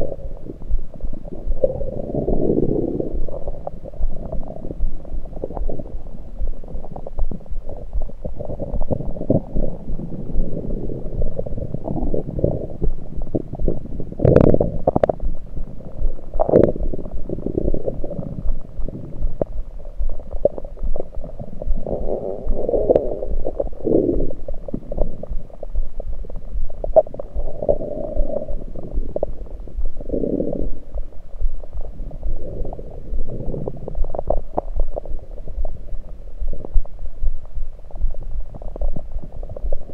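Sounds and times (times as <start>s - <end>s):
stomach gurgling: 0.0s - 39.9s.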